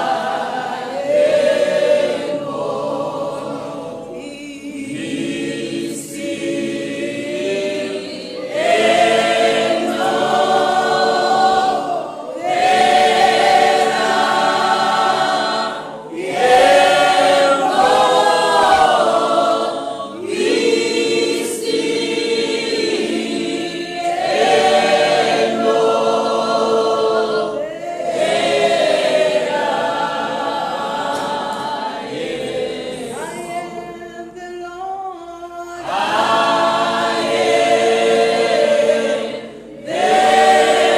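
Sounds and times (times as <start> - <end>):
group singing worship song: 0.0 - 40.9.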